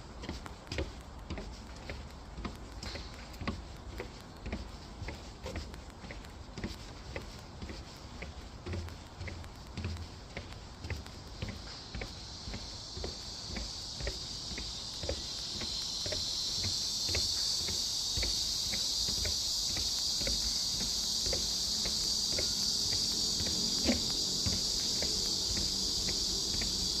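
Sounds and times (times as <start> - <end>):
cicadas droning: 0.0 - 27.0
footsteps on trail: 0.0 - 27.0.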